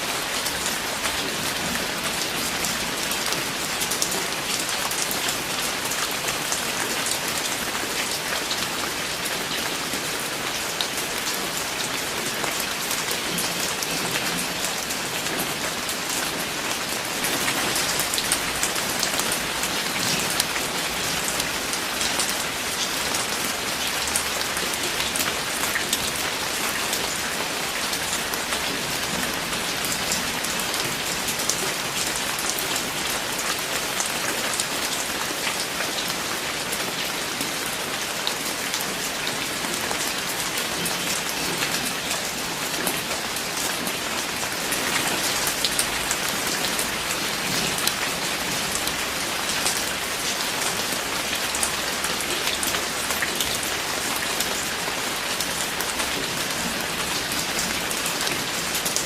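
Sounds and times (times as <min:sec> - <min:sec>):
rain drops pattering on hard surface: 0:00.0 - 0:59.0.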